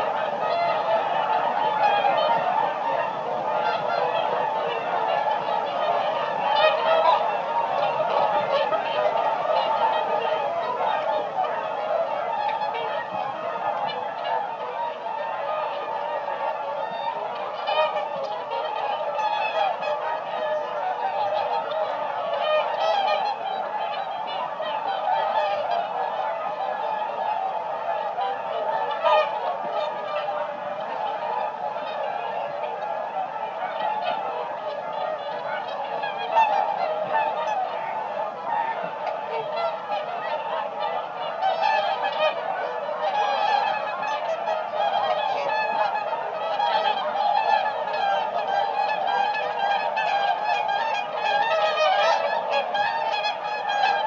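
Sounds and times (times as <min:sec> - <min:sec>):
swans honking: 0:00.0 - 0:54.0.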